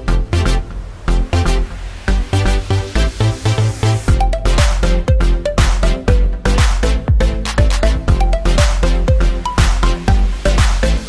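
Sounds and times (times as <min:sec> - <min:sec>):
electronic dance music: 0:01.4 - 0:11.0.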